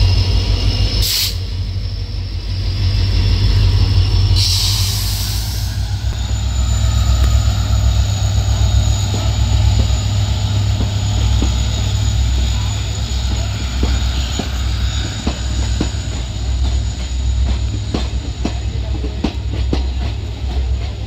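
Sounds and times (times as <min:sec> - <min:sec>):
air hissing: 0:00.0 - 0:18.6
diesel locomotives droning: 0:00.0 - 0:21.0.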